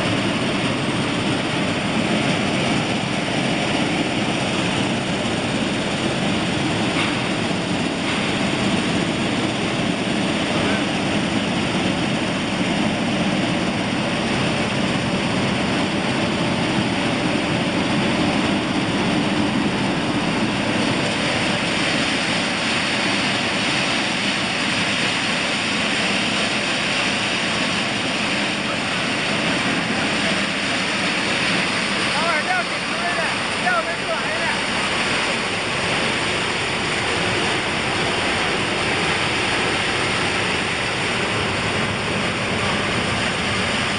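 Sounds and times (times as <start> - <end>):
machinery running steadily: 0.0 - 43.9.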